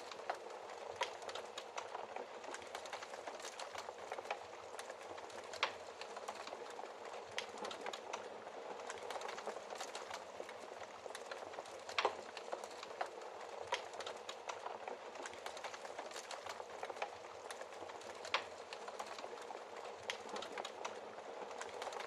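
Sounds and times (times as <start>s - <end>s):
fire snaps and pops: 0.0s - 22.0s
wood fire crackling: 0.0s - 22.0s.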